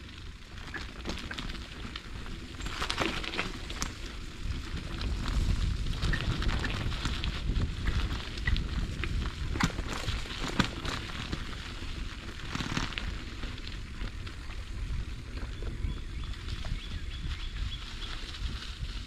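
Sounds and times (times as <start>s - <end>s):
bicycle tyres on dirt trail: 0.0s - 19.0s
grit and twigs crackling: 0.0s - 19.0s.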